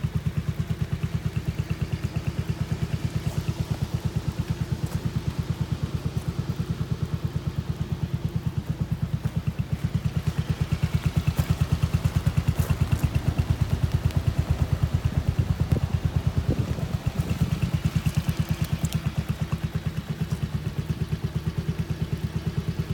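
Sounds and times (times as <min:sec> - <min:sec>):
scooter engine idling: 0:00.0 - 0:22.9.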